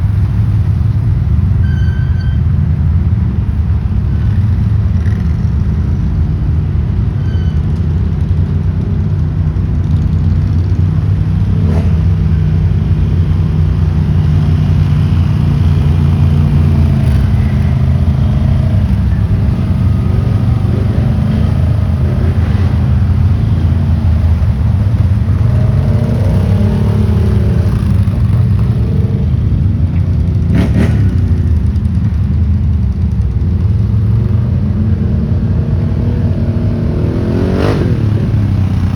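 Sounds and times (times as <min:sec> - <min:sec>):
atv engine running: 0:02.8 - 0:38.9.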